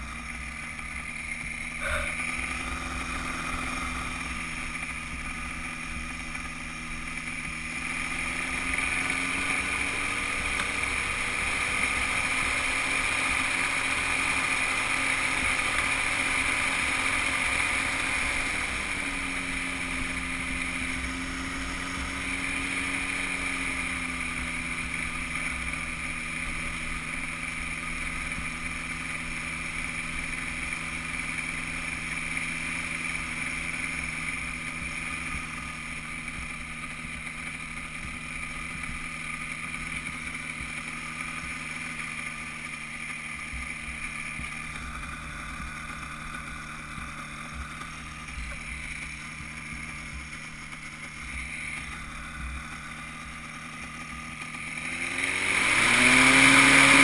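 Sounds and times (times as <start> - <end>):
microlight engine and propeller: 0.0 - 57.0.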